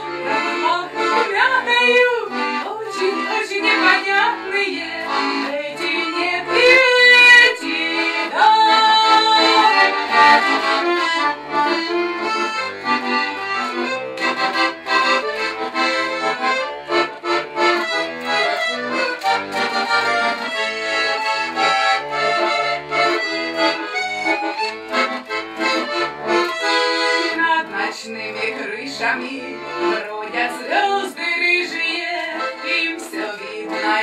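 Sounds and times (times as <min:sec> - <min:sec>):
button accordion playing folk melody: 0:00.0 - 0:34.0.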